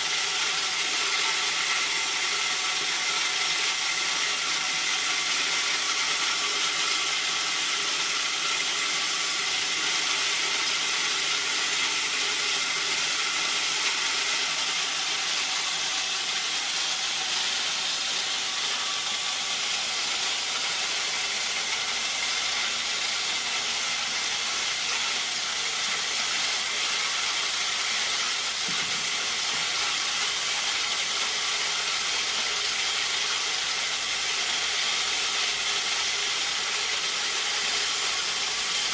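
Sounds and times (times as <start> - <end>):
corn mill grinding: 0.0 - 38.9.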